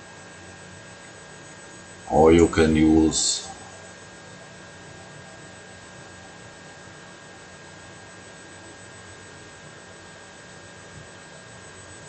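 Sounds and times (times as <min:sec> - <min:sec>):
electrical hum and hiss: 0:00.0 - 0:12.0
faint high whine: 0:00.0 - 0:12.0.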